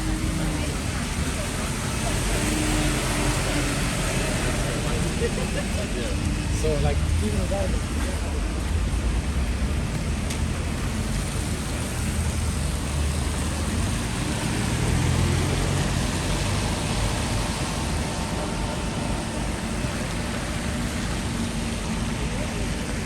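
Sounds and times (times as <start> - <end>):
vehicles passing on wet road: 0.0 - 23.0.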